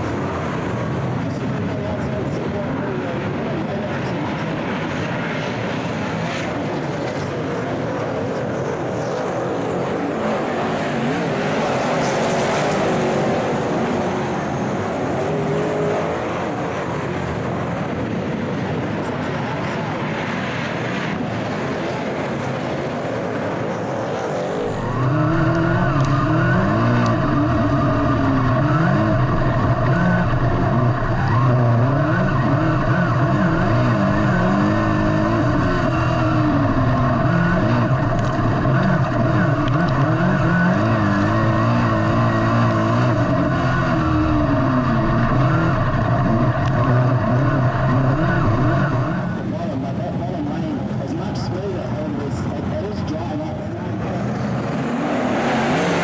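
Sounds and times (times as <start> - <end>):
race car engine revving: 0.0 - 56.0
race cars passing: 0.0 - 56.0.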